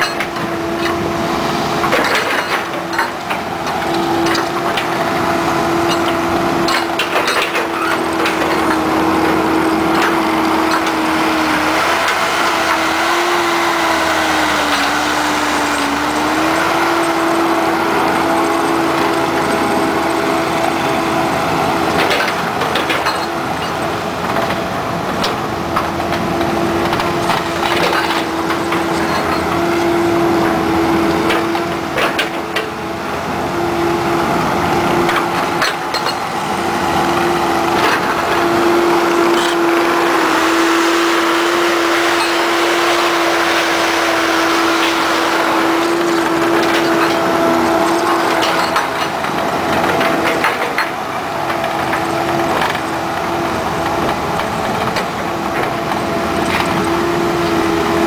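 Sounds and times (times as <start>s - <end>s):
diesel engine whining under load: 0.0s - 58.0s.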